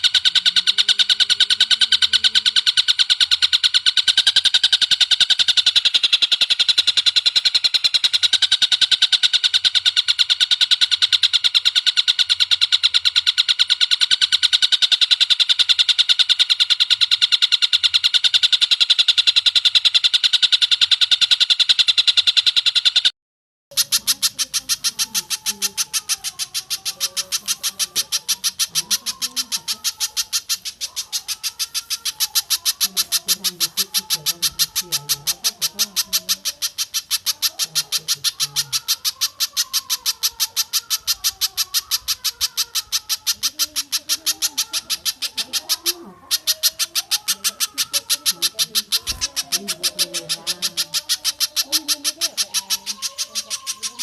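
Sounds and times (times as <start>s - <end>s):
fainter lower bird calls: 0.0s - 23.1s, 23.7s - 54.0s
rapid high-pitched bird notes: 0.0s - 23.1s, 23.7s - 54.0s.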